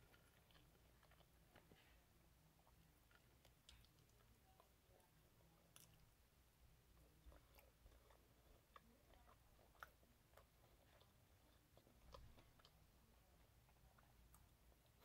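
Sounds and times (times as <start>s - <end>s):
close-mouthed chewing: 0.0s - 15.0s.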